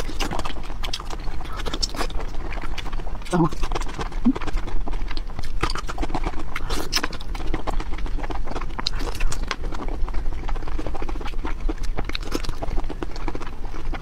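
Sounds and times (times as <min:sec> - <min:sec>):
close chewing with wet mouth clicks: 0:00.0 - 0:14.0.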